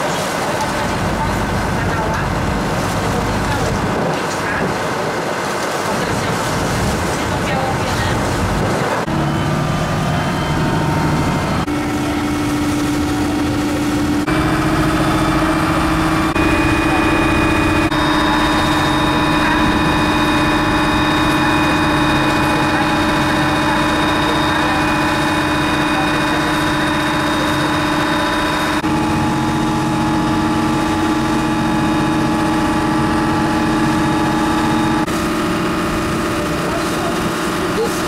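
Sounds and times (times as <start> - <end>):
boat engine drone: 0.0 - 38.0.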